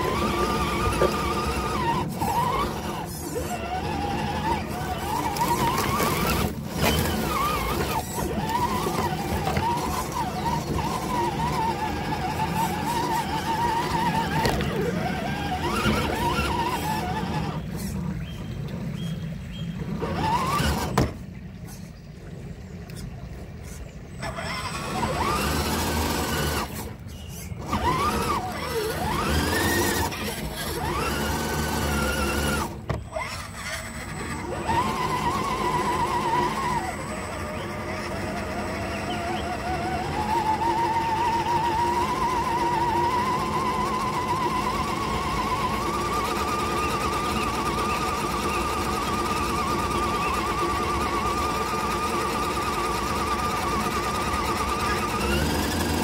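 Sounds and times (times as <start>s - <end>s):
electric motor and gearbox whining: 0.0s - 21.3s, 24.2s - 56.0s
tyres rumbling on gravel: 0.0s - 21.3s, 24.2s - 56.0s.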